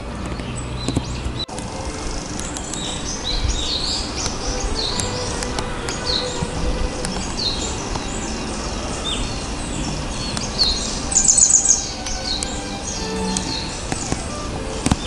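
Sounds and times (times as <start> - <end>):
songbirds chirping: 2.2 - 14.5.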